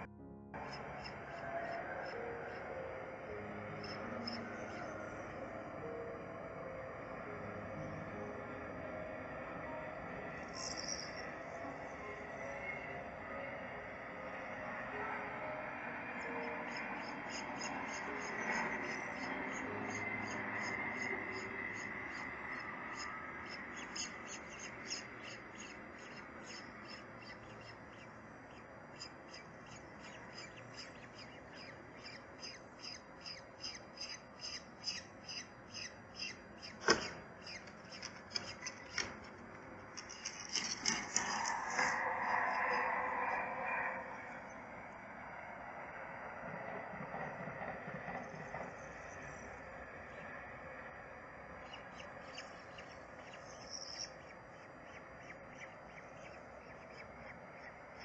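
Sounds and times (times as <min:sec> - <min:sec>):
birds chirping: 0:00.0 - 0:06.2, 0:09.6 - 0:14.8, 0:16.0 - 0:58.0.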